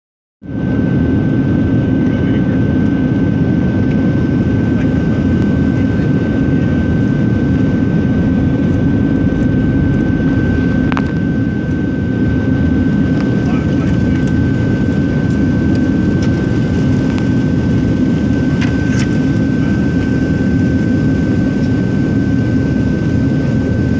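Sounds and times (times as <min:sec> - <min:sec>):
airplane cabin engine roar: 0:00.4 - 0:23.9
high steady whine: 0:00.4 - 0:23.9.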